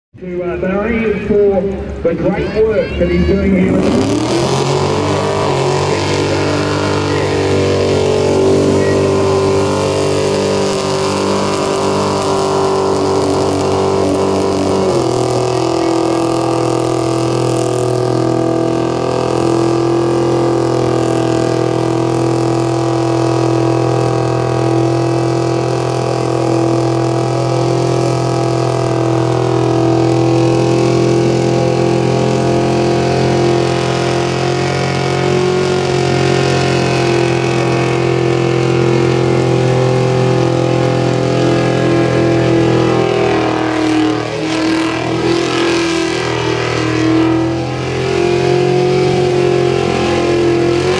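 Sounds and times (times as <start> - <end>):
car engine revving high: 0.4 - 50.9.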